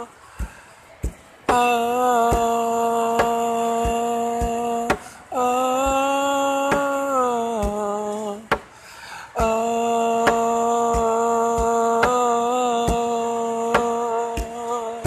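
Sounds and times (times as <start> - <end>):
man singing long held notes: 0.0 - 0.6, 1.5 - 15.0.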